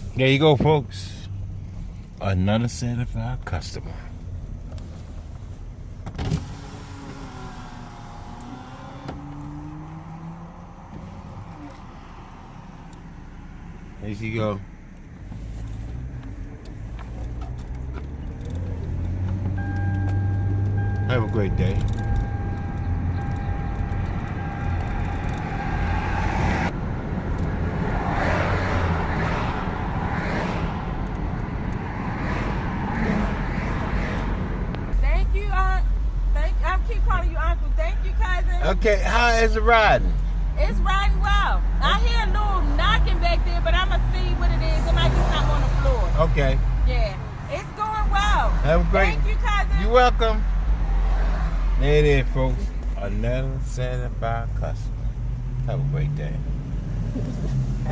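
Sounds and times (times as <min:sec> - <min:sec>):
car engine hum and road noise: 0:00.0 - 0:57.9.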